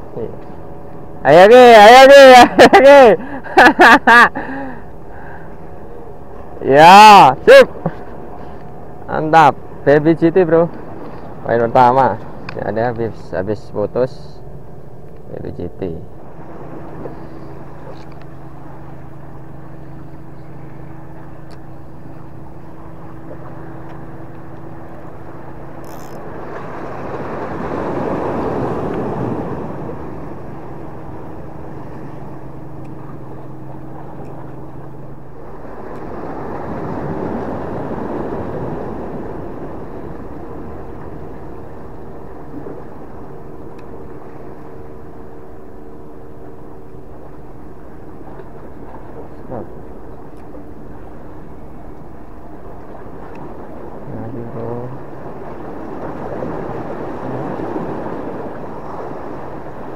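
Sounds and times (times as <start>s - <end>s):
boat engine humming: 0.0s - 59.9s
higher-pitched hum: 0.0s - 59.9s
sea wash: 0.0s - 59.9s.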